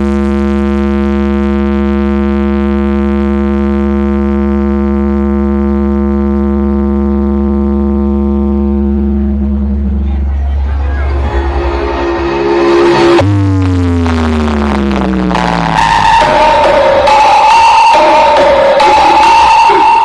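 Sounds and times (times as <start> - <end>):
constant deep bass: 0.0 - 20.0
long droning note: 0.0 - 20.0.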